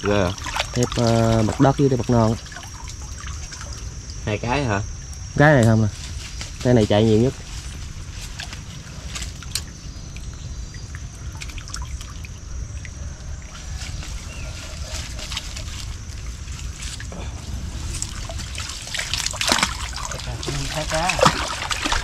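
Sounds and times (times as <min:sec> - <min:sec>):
water splashes: 0:00.0 - 0:05.3, 0:06.3 - 0:22.0
water trickling and dripping: 0:00.0 - 0:22.0.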